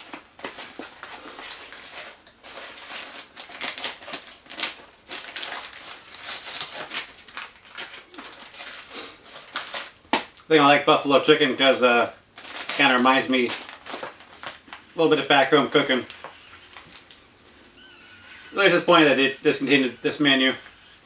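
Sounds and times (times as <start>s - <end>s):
plastic packaging crinkling: 0.0s - 10.5s, 11.2s - 21.0s.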